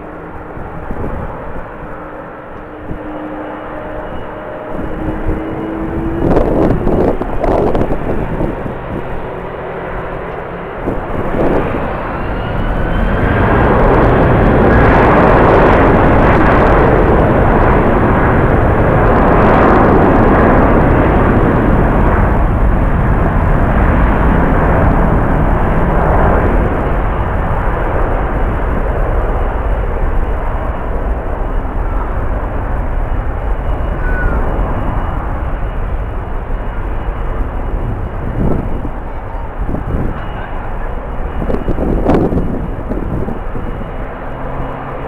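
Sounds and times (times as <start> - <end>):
jet engines roaring: 0.0 - 45.0
rising engine whine: 0.0 - 45.0
wind rumble on microphone: 0.0 - 45.0.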